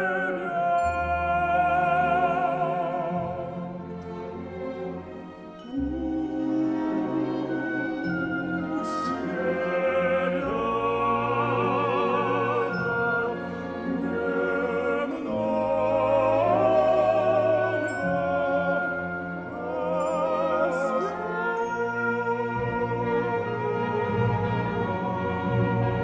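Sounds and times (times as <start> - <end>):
operatic male singing: 0.0 - 3.9, 6.3 - 25.8
symphony orchestra sustained chords: 0.0 - 26.0.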